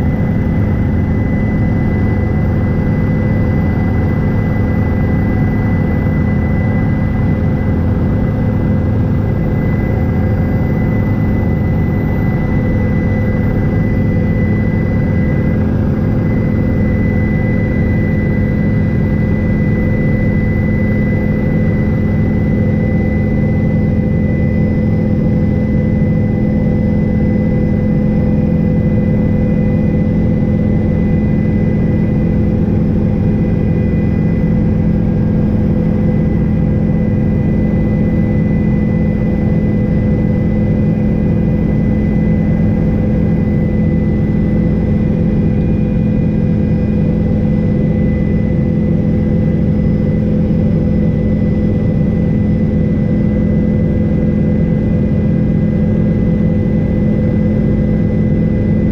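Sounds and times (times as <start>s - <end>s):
helicopter rotor and engine noise: 0.0s - 58.9s.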